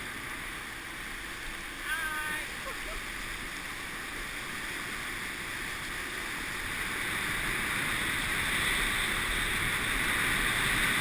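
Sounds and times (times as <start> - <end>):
water skis hissing through water: 0.0 - 11.0
wind over camera: 0.0 - 11.0.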